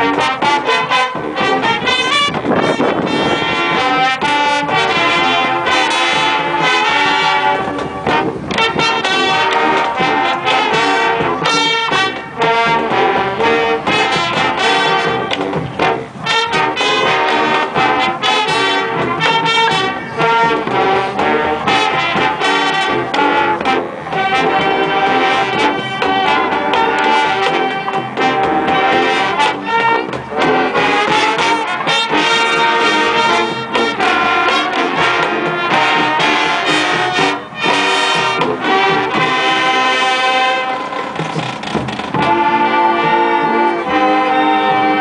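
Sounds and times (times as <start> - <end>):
sousaphones carrying the tune: 0.0 - 41.4
marching band playing: 0.0 - 45.0.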